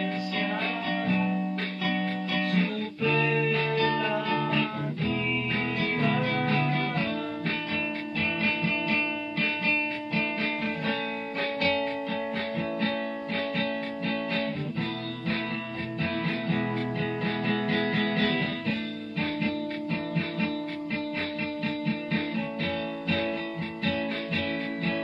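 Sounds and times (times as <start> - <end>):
guitar strumming chords: 0.0 - 25.0.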